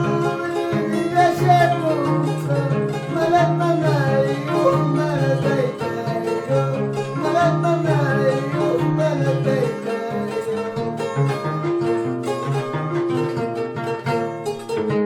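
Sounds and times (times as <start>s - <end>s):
harp playing: 0.0s - 15.0s.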